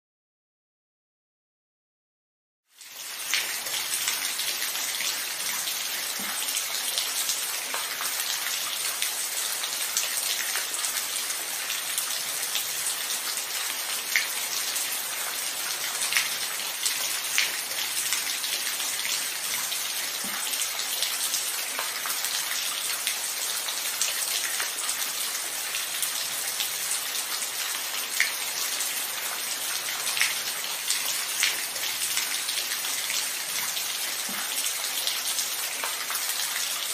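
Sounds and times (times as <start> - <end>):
rain falling: 2.8 - 36.9.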